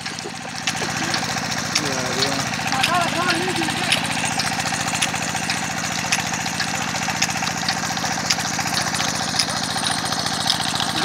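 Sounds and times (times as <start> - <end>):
sugarcane crusher engine running: 0.0 - 11.0.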